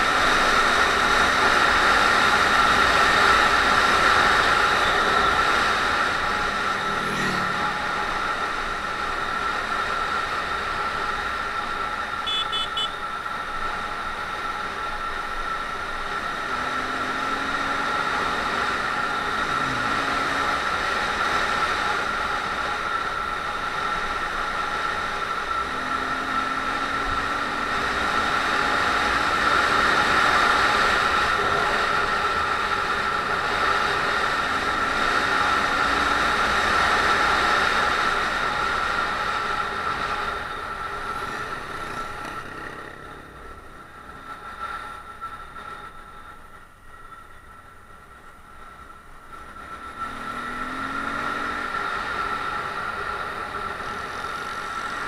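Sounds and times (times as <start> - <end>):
high whine: 0.0 - 55.0
motorcycle engine running: 0.0 - 55.0.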